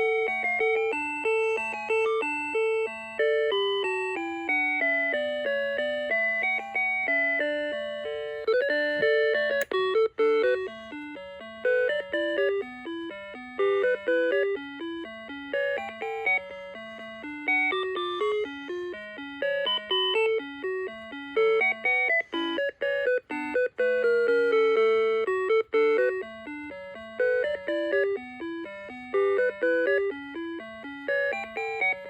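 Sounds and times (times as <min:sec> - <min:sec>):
alarm clock electronic melody: 0:00.0 - 0:32.0.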